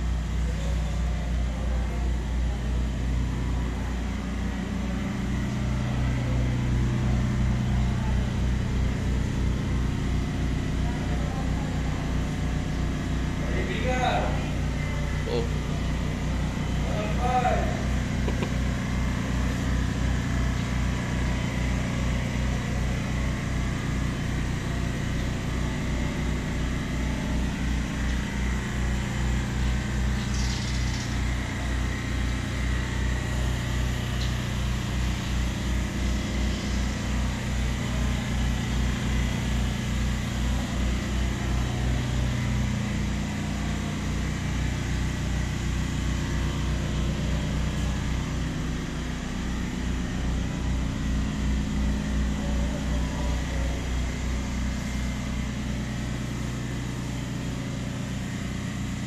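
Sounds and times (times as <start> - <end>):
throbbing mechanical hum: 0.0 - 59.0.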